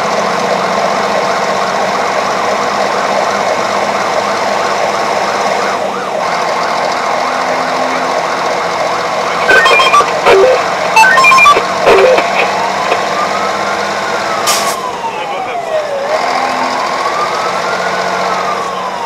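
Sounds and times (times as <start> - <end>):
electronic emergency siren: 0.6 - 19.0.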